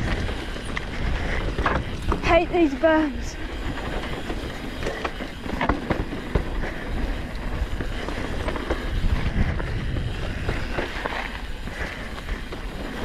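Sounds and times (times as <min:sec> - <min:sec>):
bike clicking and rattling: 0:00.0 - 0:13.0
bike tyre and wind rumble: 0:00.0 - 0:13.0.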